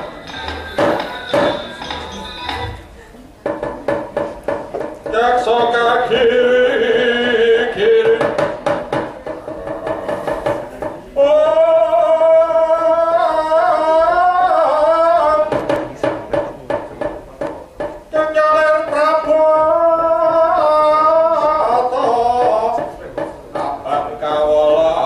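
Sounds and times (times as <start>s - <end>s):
wooden knocker rapping: 0.0s - 2.8s, 3.4s - 12.2s, 13.1s - 25.0s.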